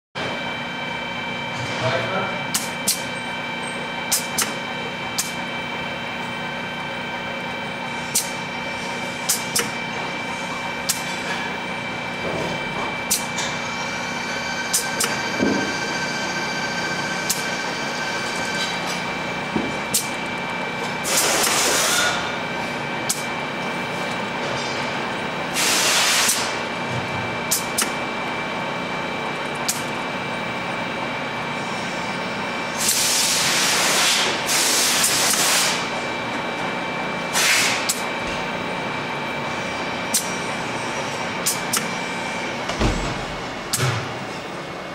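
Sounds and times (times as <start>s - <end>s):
machine hum with whining tones: 0.2s - 44.9s.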